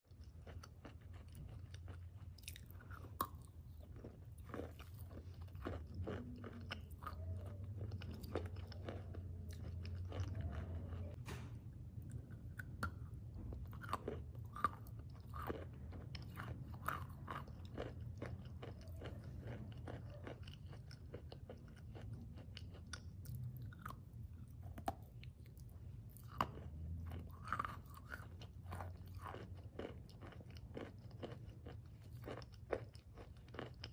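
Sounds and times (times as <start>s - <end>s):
crunchy food being chewed: 0.0s - 11.2s, 11.9s - 33.9s.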